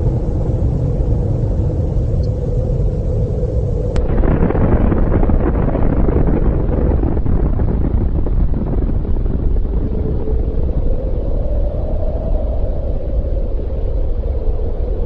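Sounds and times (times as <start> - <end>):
deep explosion rumble: 0.0 - 14.9.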